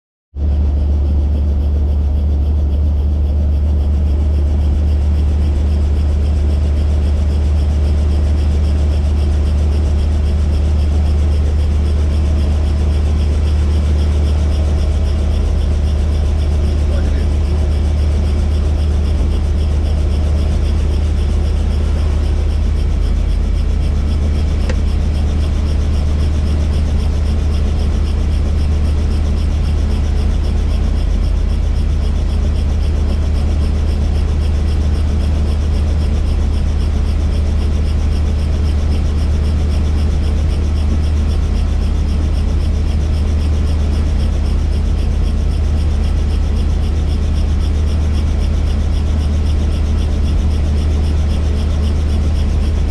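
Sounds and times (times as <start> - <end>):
helicopter engine and rotor drone: 0.4 - 52.9.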